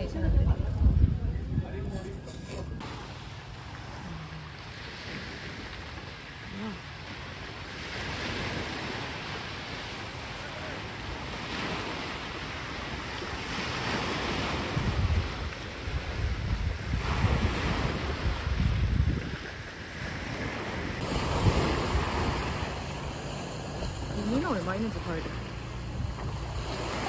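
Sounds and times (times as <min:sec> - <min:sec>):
wind buffeting microphone: 0:00.0 - 0:06.8, 0:07.5 - 0:27.0
small waves breaking on shore: 0:02.8 - 0:27.0.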